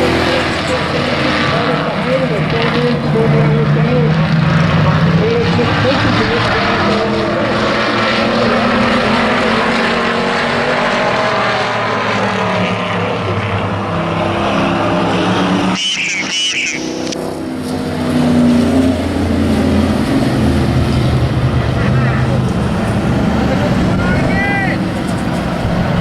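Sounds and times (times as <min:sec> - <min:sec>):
engine passing close: 0:00.0 - 0:26.0
race truck engines racing: 0:00.0 - 0:26.0.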